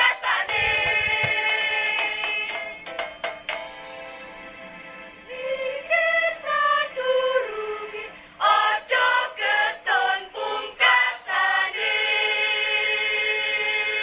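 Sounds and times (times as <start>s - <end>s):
choir singing: 0.0s - 2.8s, 5.2s - 14.0s.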